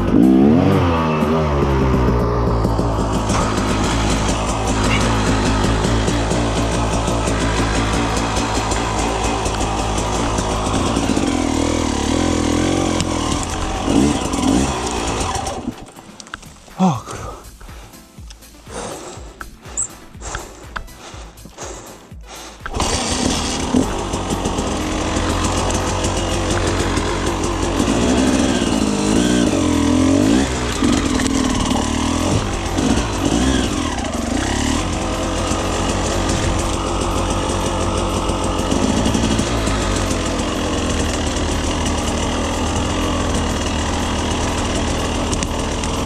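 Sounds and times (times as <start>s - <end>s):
motorcycle engine revving: 0.0s - 16.4s, 19.8s - 46.0s.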